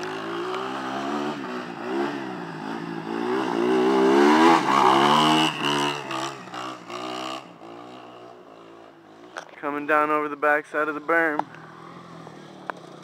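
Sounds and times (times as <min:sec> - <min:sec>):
quad engines revving: 0:00.0 - 0:10.1, 0:10.8 - 0:13.0.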